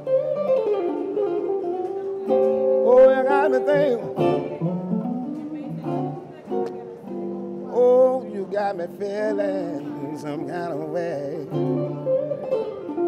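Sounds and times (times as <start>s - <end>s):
electric guitar playing blues: 0.0s - 13.0s.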